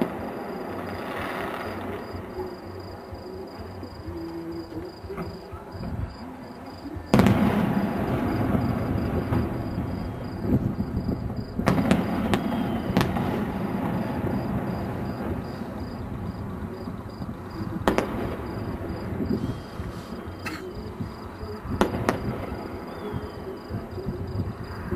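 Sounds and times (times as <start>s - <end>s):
fireworks sharp bangs: 0.0s - 24.9s
rumble of fireworks booms: 0.0s - 24.9s.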